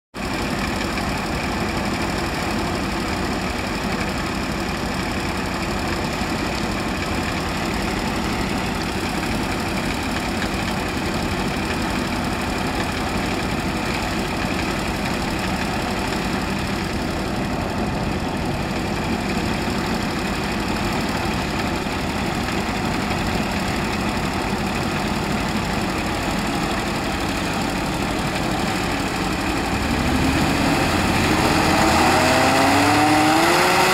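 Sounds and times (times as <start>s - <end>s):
hovercraft engine idling: 0.2s - 33.0s.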